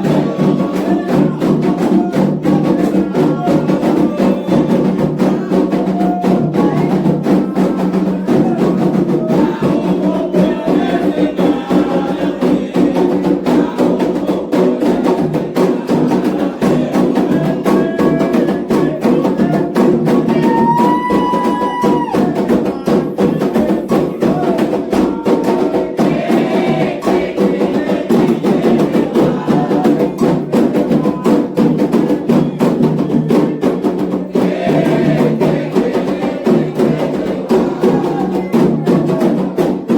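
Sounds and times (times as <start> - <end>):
hand drums fast rhythm: 0.0 - 39.9
voices singing: 0.0 - 39.9.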